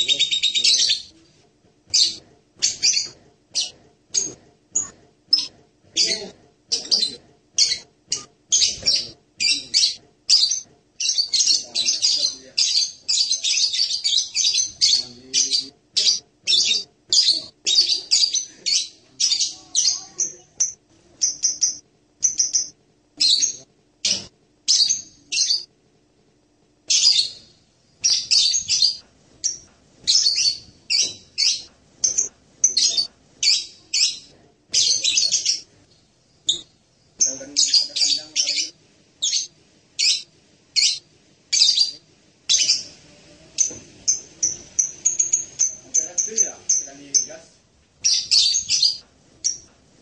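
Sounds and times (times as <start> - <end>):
parrot chirping: 0.0 - 1.3, 1.9 - 25.7, 26.9 - 35.8, 36.4 - 47.4, 48.0 - 49.8.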